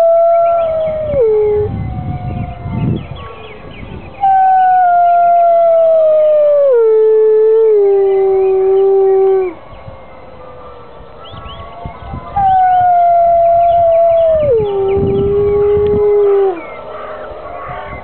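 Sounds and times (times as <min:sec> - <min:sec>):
wolf howling: 0:00.0 - 0:03.4, 0:04.2 - 0:18.0
faint wolves howling: 0:00.0 - 0:18.0.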